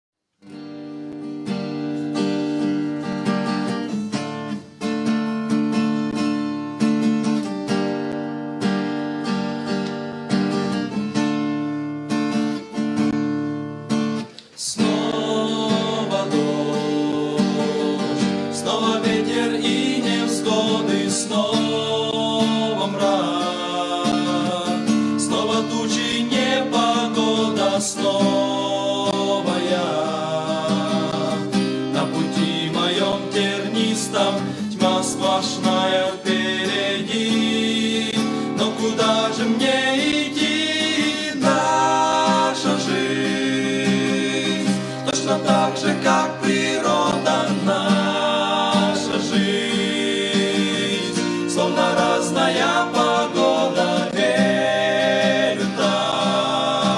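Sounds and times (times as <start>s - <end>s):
acoustic guitar chords: 0.3s - 56.9s.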